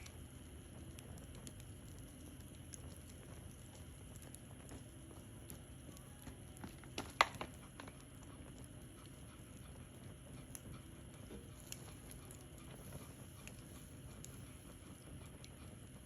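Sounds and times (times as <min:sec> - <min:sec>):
fire popping: 0:00.0 - 0:16.0
wood fire crackling: 0:00.0 - 0:16.0.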